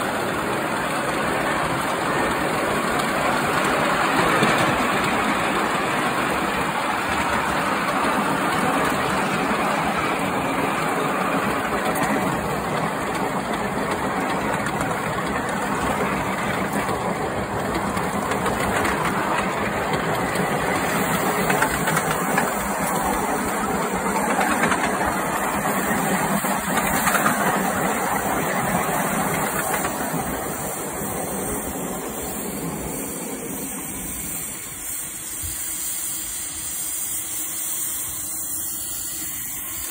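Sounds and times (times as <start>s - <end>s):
steam hissing: 0.0s - 39.9s
steam locomotive exhaust beat: 0.0s - 39.9s.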